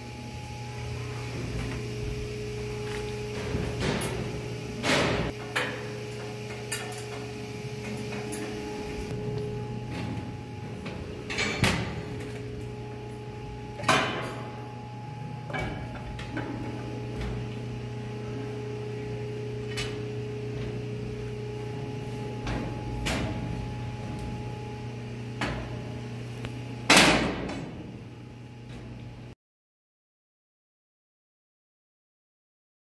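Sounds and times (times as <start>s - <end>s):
engine room machinery hum: 0.0s - 29.4s.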